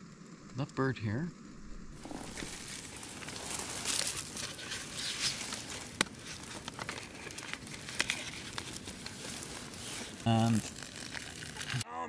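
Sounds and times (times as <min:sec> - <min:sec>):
plastic wrapper crinkling: 0:02.0 - 0:11.8.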